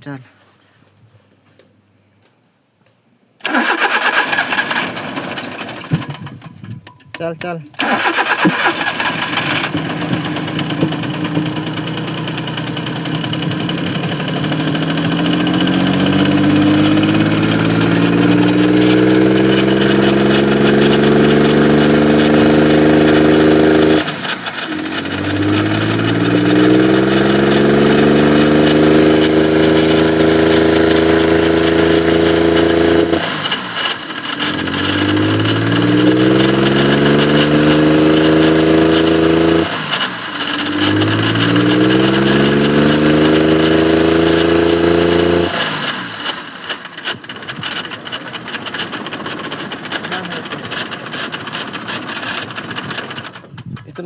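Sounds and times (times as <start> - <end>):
misfiring car engine revving: 3.4 - 6.6, 7.8 - 54.0.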